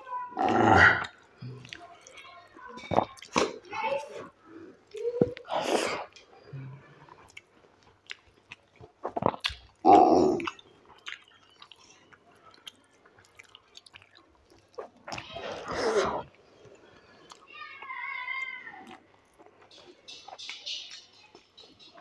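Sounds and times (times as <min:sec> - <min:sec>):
person chewing food: 0:00.5 - 0:03.7, 0:04.3 - 0:17.5, 0:18.8 - 0:22.0.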